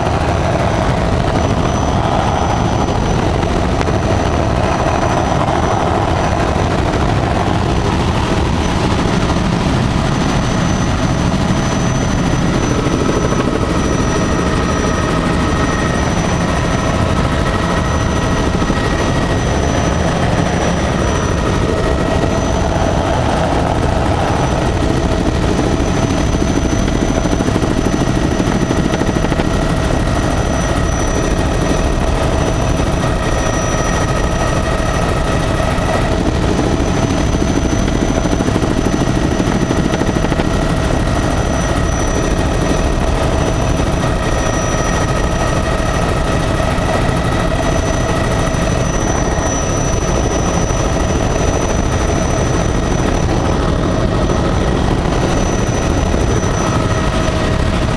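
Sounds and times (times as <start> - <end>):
helicopter rotor and engine noise: 0.0 - 57.9
high-pitched whine: 0.0 - 57.9.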